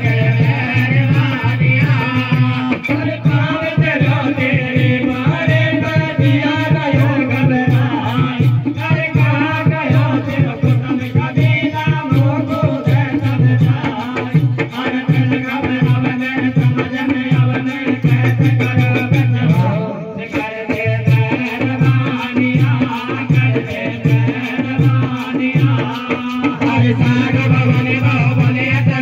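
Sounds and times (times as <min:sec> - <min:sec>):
drum beat: 0:00.0 - 0:29.0
men singing devotional song: 0:00.0 - 0:29.0
rattling percussion: 0:00.0 - 0:29.0.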